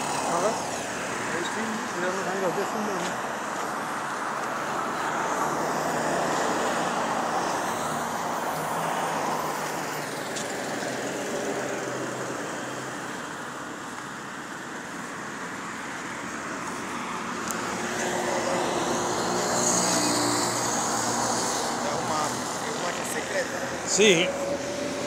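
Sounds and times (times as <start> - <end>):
cars passing on a road: 0.0 - 25.0.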